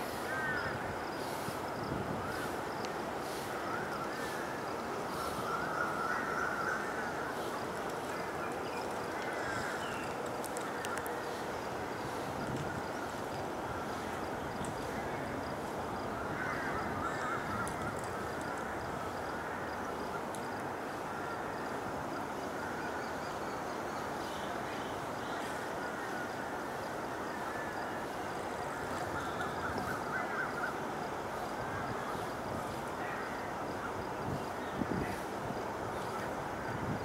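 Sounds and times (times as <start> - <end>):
outdoor background rush: 0.0 - 37.0.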